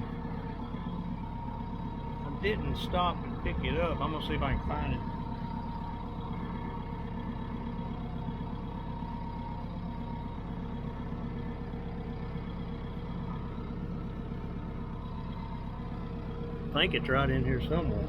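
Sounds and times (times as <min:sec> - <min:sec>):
farm vehicle engine running: 0:00.0 - 0:18.0.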